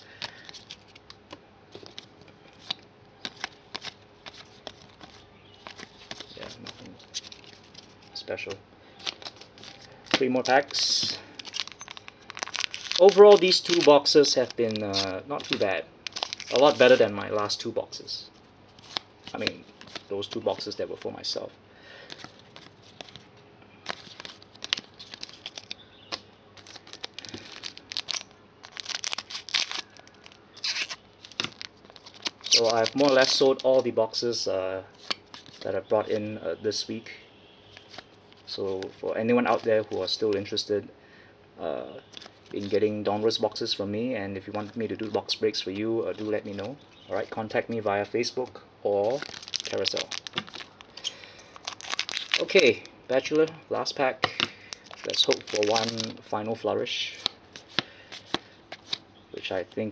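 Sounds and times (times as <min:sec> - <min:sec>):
trading cards flipping: 0:00.0 - 0:17.6, 0:18.7 - 0:21.2, 0:22.0 - 0:33.9, 0:35.0 - 0:35.7, 0:37.7 - 0:40.5, 0:42.0 - 0:42.9, 0:44.5 - 0:48.0, 0:49.0 - 0:53.6, 0:54.2 - 0:56.2, 0:57.1 - 0:59.6
foil pack crinkling: 0:00.0 - 0:34.3, 0:34.9 - 0:36.4, 0:37.7 - 0:40.6, 0:42.0 - 0:43.8, 0:44.4 - 0:59.9.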